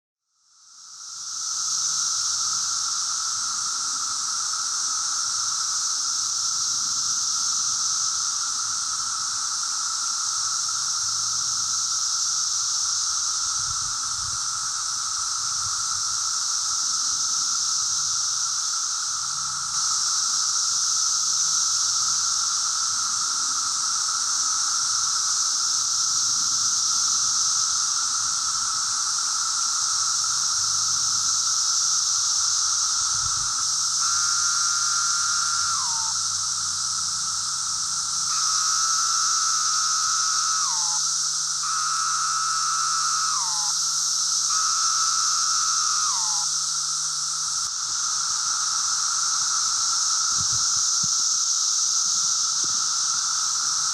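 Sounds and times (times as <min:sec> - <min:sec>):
individual cicada calls: 0:00.3 - 0:53.9
cicadas chorusing: 0:00.4 - 0:53.9.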